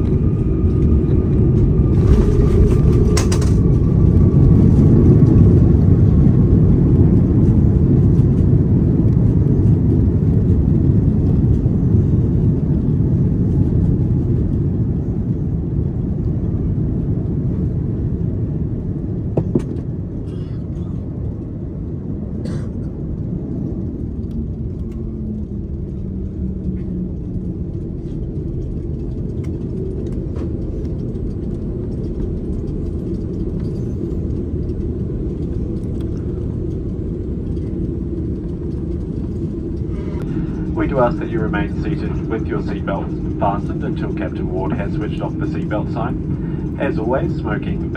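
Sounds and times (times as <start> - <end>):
airplane cabin rumble: 0.0 - 47.9.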